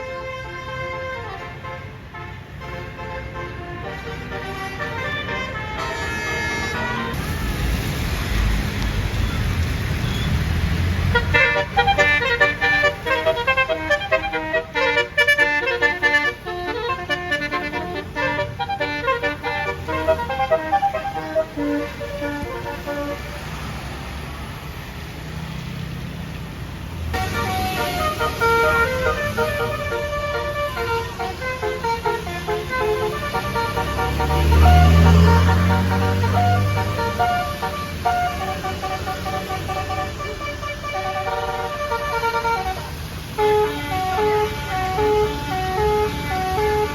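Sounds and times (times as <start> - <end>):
bus air horn chord: 0.0 - 7.6, 11.0 - 23.5, 27.2 - 46.9
horn playing quick melody: 0.0 - 7.8, 11.1 - 23.4, 27.2 - 46.9.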